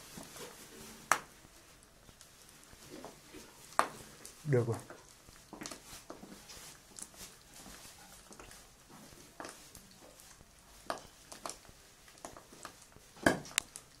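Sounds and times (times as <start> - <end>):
meat frying hiss: 0.0 - 14.0
pops and crackles: 0.0 - 14.0.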